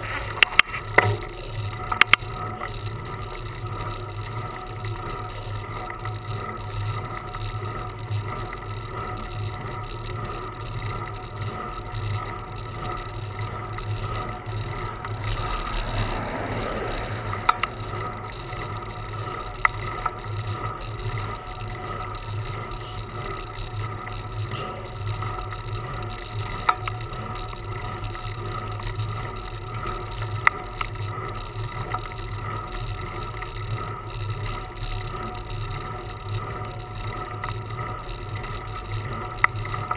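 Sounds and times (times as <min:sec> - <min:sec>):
bicycle hum and whir: 0:00.0 - 0:39.9.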